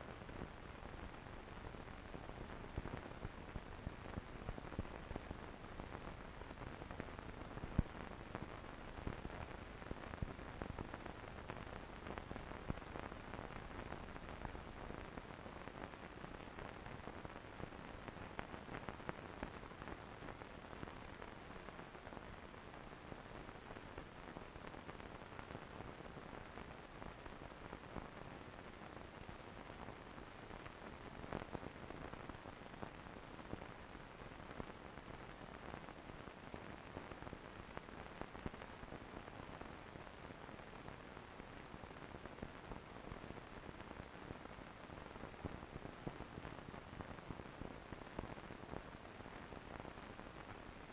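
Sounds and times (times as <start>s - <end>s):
steady low hiss: 0.0s - 50.9s.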